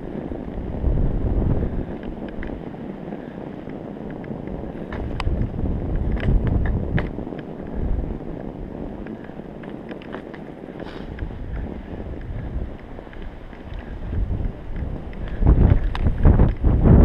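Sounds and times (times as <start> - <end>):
bike clicks and rattles: 0.0 - 17.0
bike tyres rumbling in snow: 0.0 - 17.0
wind buffeting microphone: 0.0 - 17.0.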